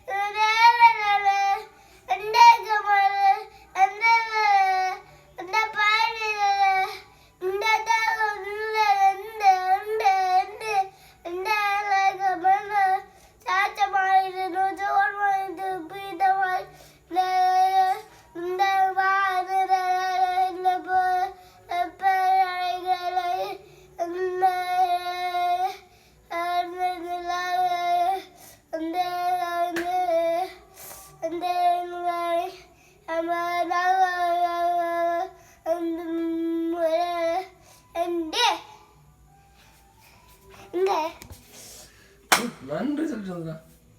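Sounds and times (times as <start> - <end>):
child singing alone: 0.0 - 38.7.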